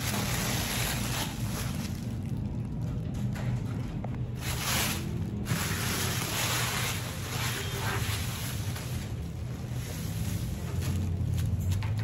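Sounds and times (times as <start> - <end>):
packaging rustling and crinkling: 0.0 - 3.1, 4.2 - 12.0.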